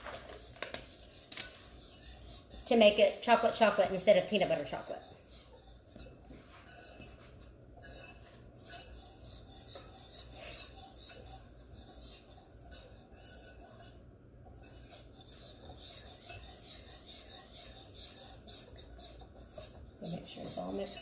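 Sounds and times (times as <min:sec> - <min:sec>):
whisk scraping a bowl: 0:00.0 - 0:21.0.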